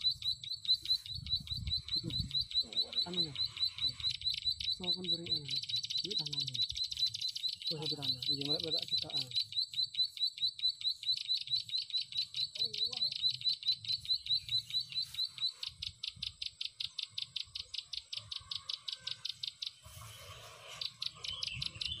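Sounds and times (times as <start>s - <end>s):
bird chattering call: 0.0s - 22.0s.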